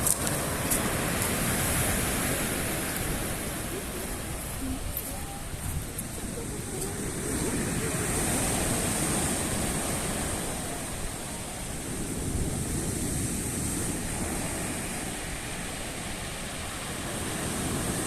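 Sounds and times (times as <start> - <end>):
waves breaking ashore: 0.0 - 18.0.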